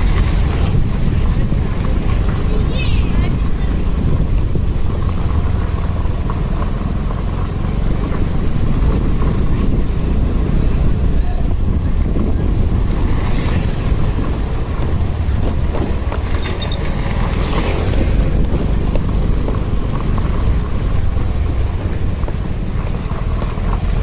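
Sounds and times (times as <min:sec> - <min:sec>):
motorcycle running: 0:00.0 - 0:24.0
road noise: 0:00.0 - 0:24.0
wind buffeting microphone: 0:00.0 - 0:24.0.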